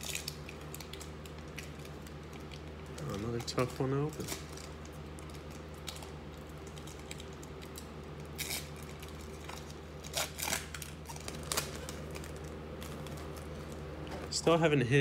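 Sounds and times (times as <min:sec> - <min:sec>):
foil wrapper crinkling and tearing: 0:00.0 - 0:13.9
steady low hum: 0:00.0 - 0:15.0.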